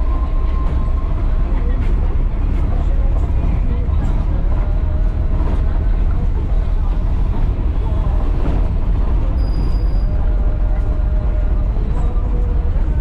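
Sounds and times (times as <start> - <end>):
faint engine hum: 0.0 - 13.0
road traffic rumble: 0.0 - 13.0.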